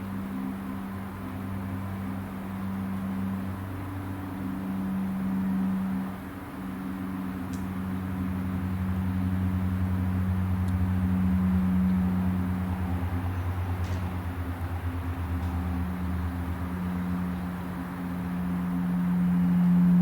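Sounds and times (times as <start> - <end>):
turboprop engines droning: 0.0 - 20.0.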